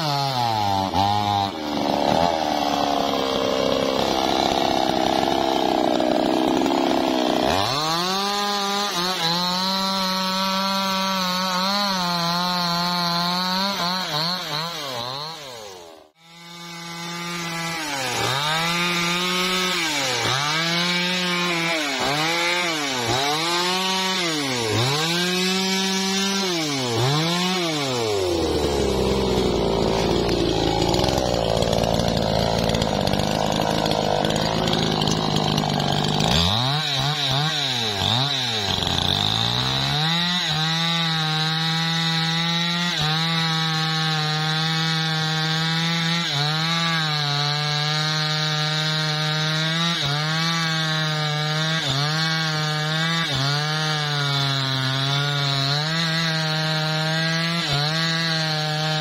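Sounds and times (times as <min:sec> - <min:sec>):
chainsaw cutting through log: 0:00.0 - 0:59.0
chainsaw throttle blips: 0:00.3 - 0:59.0.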